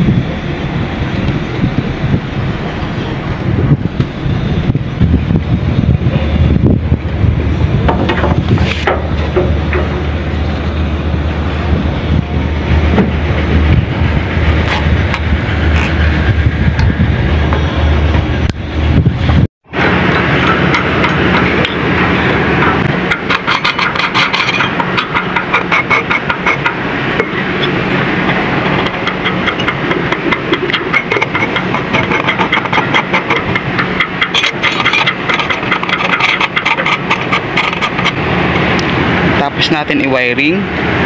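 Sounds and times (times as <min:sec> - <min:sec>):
engine running with fast clatter: 0:00.0 - 0:41.0.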